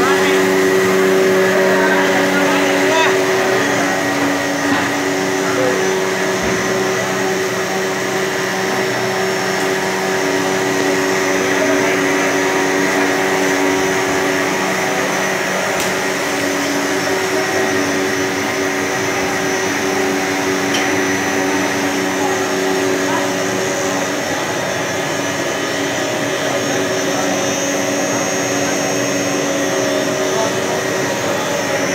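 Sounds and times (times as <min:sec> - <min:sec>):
machine drone with tones: 0:00.0 - 0:31.9.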